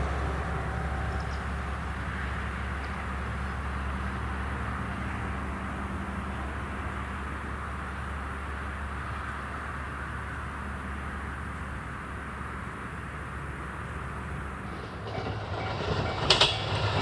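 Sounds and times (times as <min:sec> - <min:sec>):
distant diesel railcar rumble: 0:00.0 - 0:17.0.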